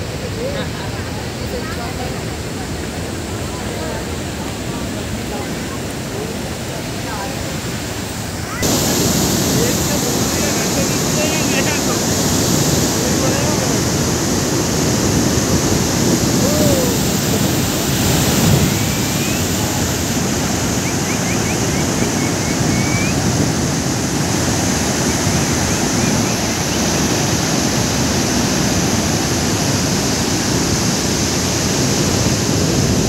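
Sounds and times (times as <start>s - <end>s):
water rushing through dam: 0.0s - 33.0s.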